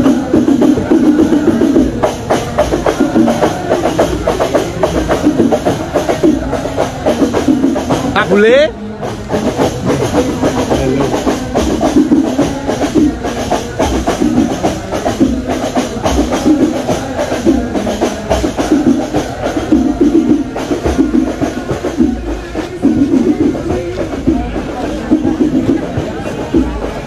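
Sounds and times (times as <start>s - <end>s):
drums beating fast: 0.0s - 27.0s.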